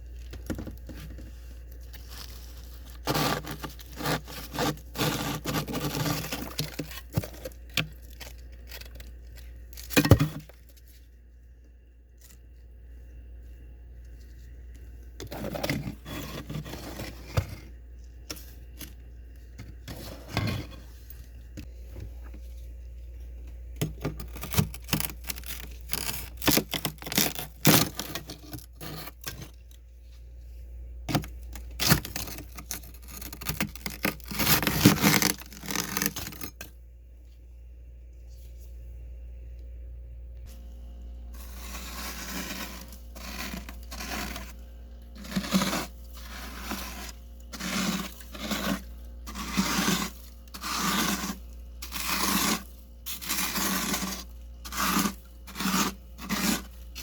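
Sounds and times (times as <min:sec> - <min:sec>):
freezer frost scraping and crunching: 0:00.0 - 0:37.4, 0:41.3 - 0:57.0.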